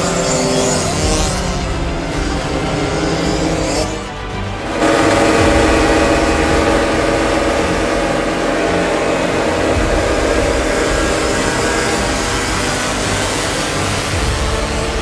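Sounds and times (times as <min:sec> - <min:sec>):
small two-stroke engines buzzing: 0:00.0 - 0:15.0.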